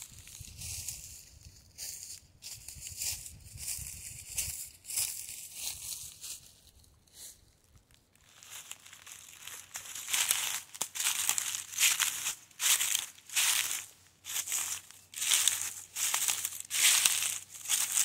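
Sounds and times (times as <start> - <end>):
footsteps crunching on dry leaves: 0.0 - 7.4, 8.2 - 18.0.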